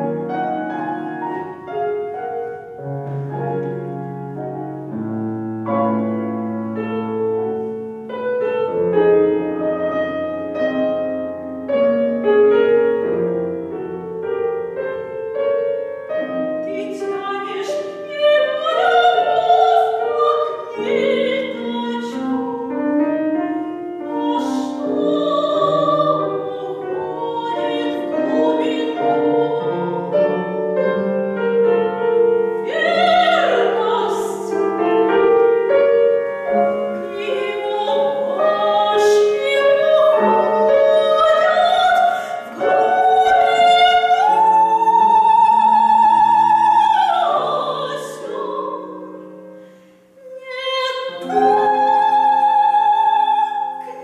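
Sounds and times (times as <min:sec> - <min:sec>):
piano and strings chords: 0:00.0 - 0:54.0.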